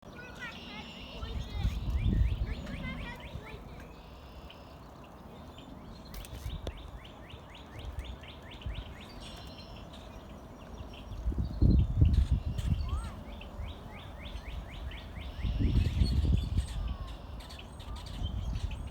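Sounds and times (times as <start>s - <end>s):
birds chirping: 0.1s - 18.9s.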